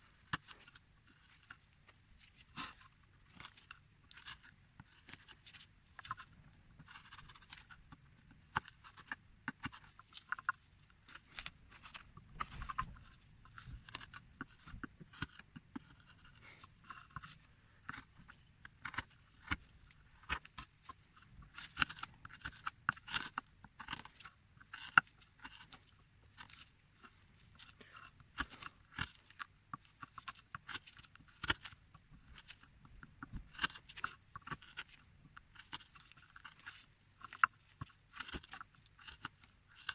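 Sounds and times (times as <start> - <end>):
carving tool scraping wood: 0.1 - 39.9.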